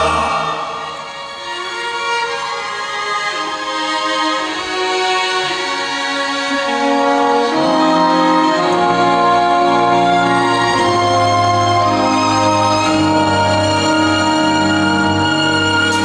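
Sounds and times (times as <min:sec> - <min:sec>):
strings playing held chords: 0:00.0 - 0:16.0.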